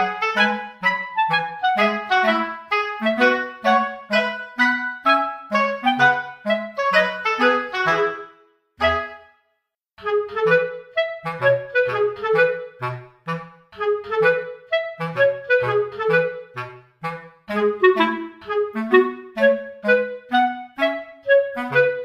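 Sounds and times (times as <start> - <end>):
instrumental tune of short notes: 0.0 - 22.0.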